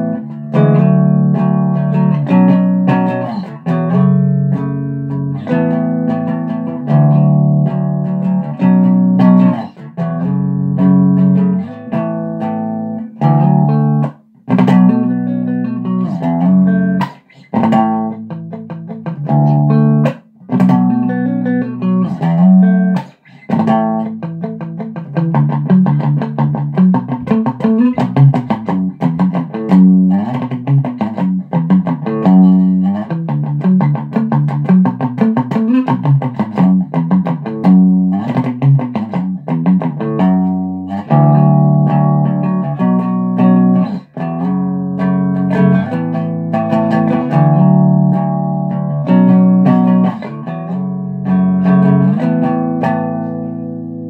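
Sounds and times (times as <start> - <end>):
clean electric guitar: 0.0 - 54.0.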